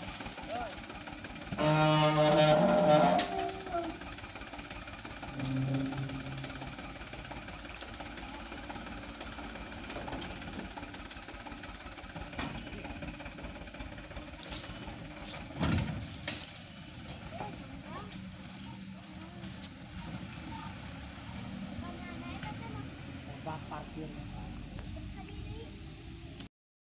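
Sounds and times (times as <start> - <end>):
diesel truck engine running: 0.0 - 26.5.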